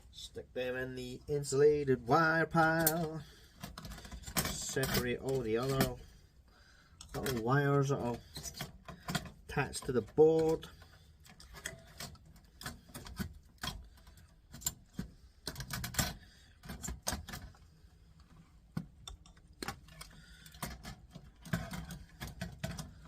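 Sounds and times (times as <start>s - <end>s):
wires clicking and rattling: 1.5s - 6.2s, 6.9s - 23.0s.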